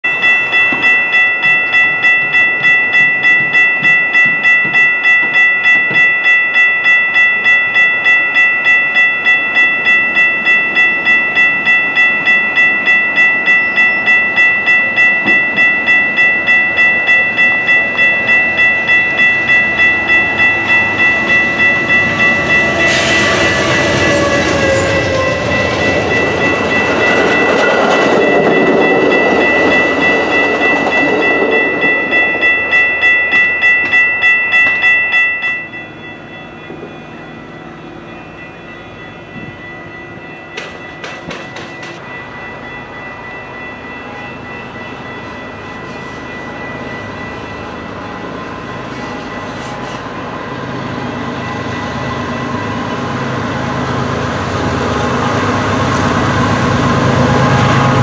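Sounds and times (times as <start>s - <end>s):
railroad crossing bell ringing: 0.0s - 58.0s
wheels clacking on rails: 0.1s - 50.3s
train rushing past: 0.1s - 58.0s.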